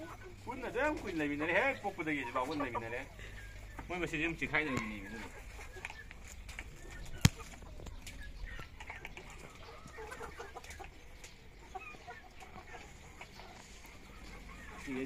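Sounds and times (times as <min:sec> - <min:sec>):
birds clucking: 0:00.0 - 0:15.0.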